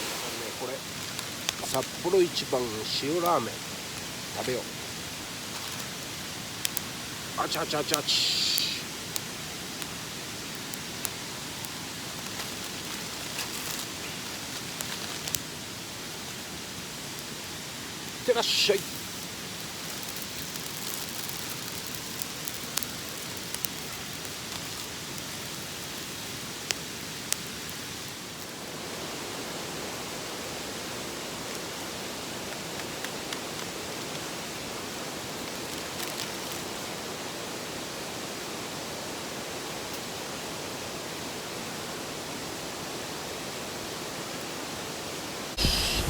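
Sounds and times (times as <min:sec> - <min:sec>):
campfire crackling pops: 0:00.0 - 0:37.2, 0:45.5 - 0:46.0
pot boiling hiss: 0:00.0 - 0:46.0.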